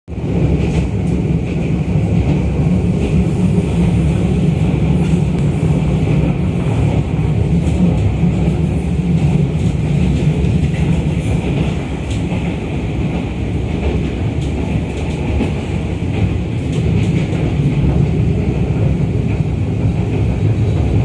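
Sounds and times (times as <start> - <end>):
train wheels rumbling on rail: 0.1 - 21.0.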